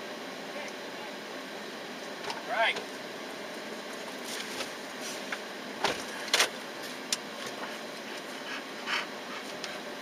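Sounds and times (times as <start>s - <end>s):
vehicle noise inside car: 0.0s - 10.0s.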